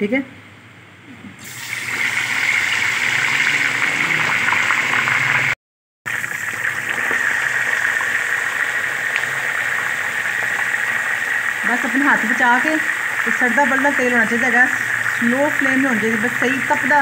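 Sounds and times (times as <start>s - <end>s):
meat deep-frying in hot oil: 1.4s - 17.0s.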